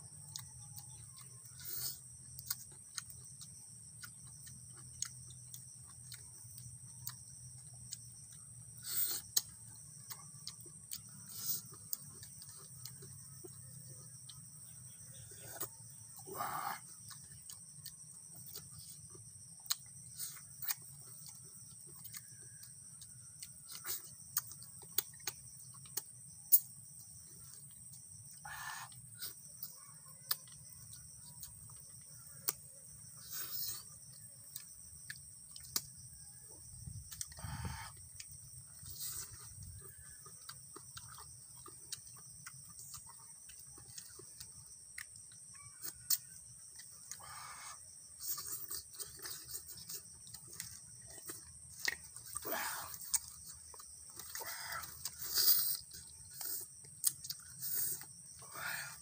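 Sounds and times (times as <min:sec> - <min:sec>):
chewing and lip-smacking: 0:00.0 - 0:59.0
insects droning: 0:00.0 - 0:59.0.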